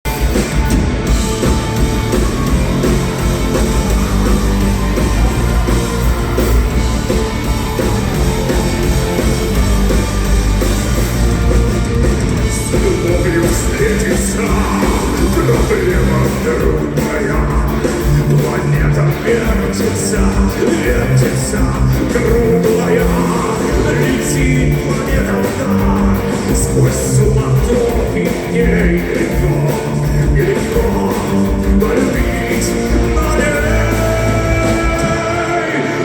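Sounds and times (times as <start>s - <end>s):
live rock band playing: 0.0s - 36.0s
electric guitar: 0.1s - 36.0s.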